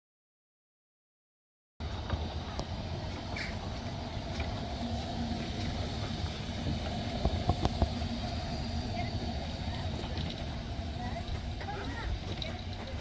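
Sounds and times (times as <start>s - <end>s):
steam locomotive rumble and hum: 1.8s - 13.0s
faint voices: 2.4s - 13.0s.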